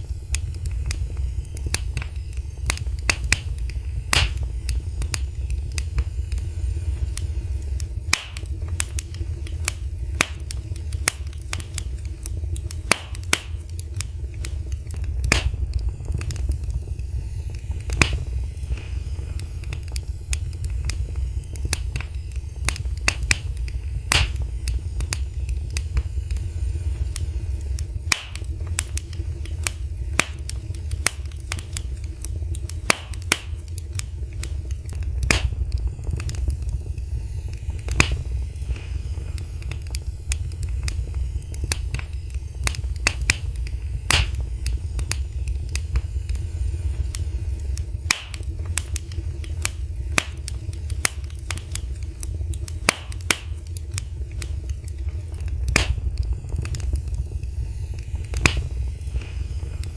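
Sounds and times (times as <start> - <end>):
steady low rumble: 0.0 - 59.9
wood fire crackling and popping: 0.0 - 59.9.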